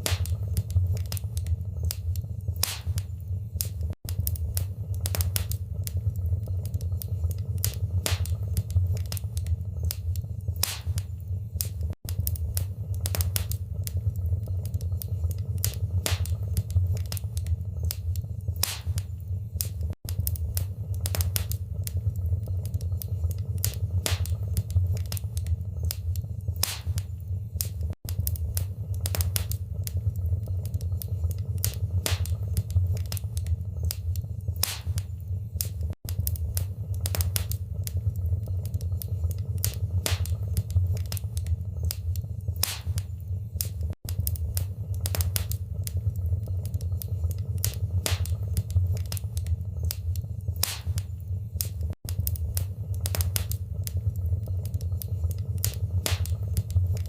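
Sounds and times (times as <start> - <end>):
steady low rumble: 0.0 - 57.0
wood fire crackling: 0.0 - 57.0.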